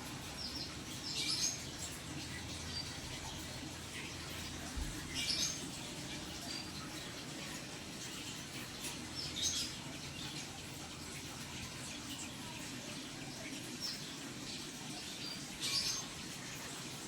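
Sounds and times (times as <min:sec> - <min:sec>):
pond water trickling: 0:00.0 - 0:17.0
small birds chirping: 0:00.0 - 0:17.0.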